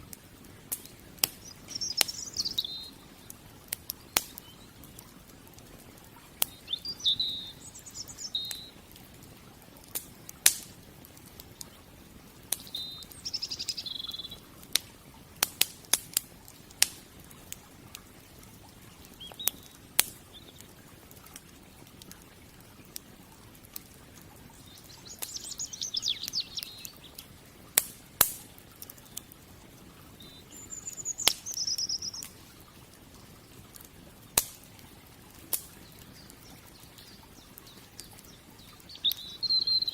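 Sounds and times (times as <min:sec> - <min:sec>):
wood fire crackling: 0:00.0 - 0:39.9
small birds chirping: 0:00.4 - 0:23.0, 0:23.7 - 0:39.9.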